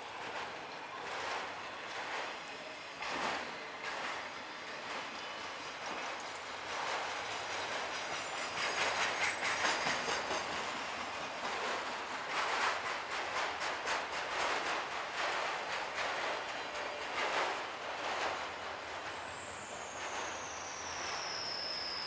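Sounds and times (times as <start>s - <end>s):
steel wheels rushing on rail: 0.0s - 22.0s
wheels clacking over rail joints: 0.0s - 22.0s.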